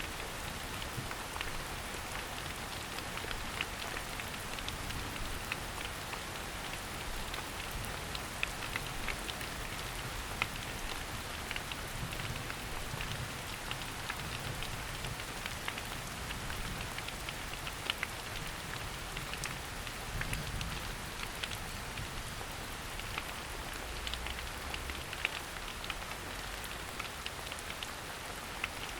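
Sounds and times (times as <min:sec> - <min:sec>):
raindrops ticking close by: 0:00.0 - 0:28.9
steady rainfall hiss: 0:00.0 - 0:28.9.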